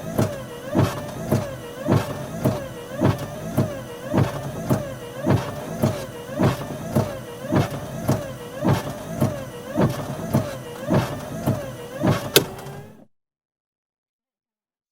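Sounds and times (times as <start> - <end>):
windshield wipers sweeping: 0.0 - 13.1
wiper motor whine: 0.0 - 13.1.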